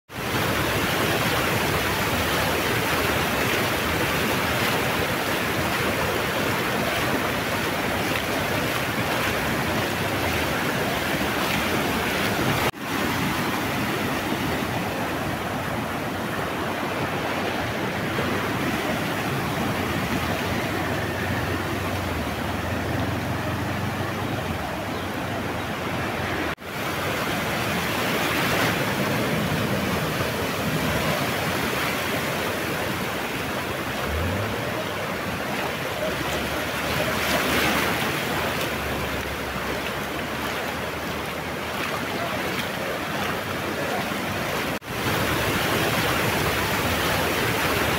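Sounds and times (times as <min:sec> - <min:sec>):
floodwater rushing across road: 0:00.1 - 0:47.9.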